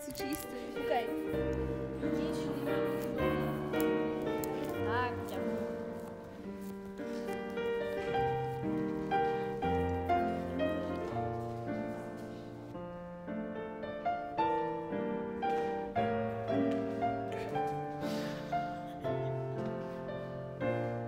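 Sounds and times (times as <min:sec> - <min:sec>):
held piano bass notes: 0:00.0 - 0:21.0
piano melody: 0:00.0 - 0:21.0.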